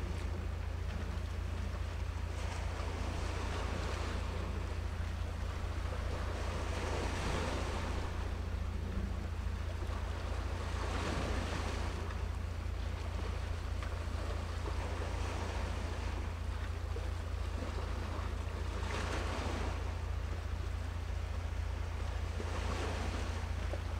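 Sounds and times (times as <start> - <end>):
sea waves washing ashore: 0.0 - 23.9
steady low rumble: 0.0 - 23.9.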